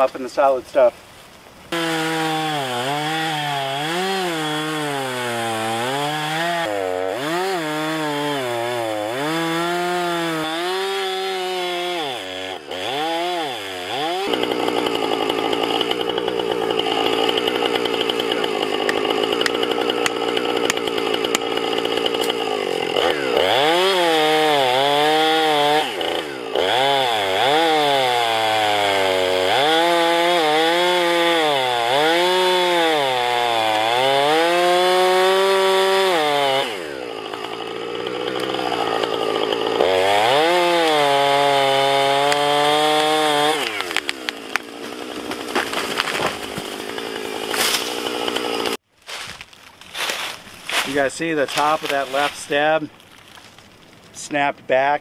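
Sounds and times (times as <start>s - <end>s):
chainsaw cutting wood: 1.7s - 54.0s.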